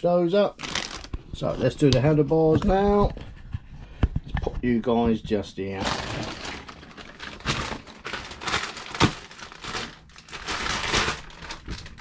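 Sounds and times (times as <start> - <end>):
crinkling and rustling: 0.5 - 12.0.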